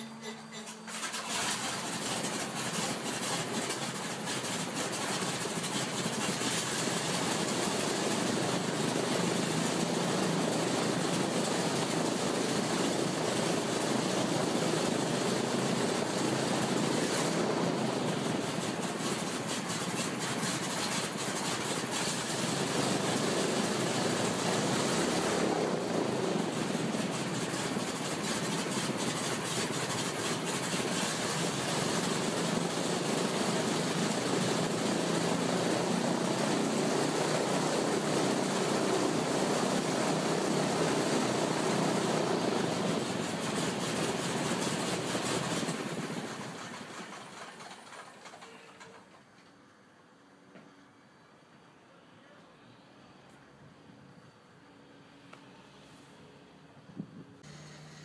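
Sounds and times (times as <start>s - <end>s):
aircraft engine and propeller running: 0.0s - 49.2s.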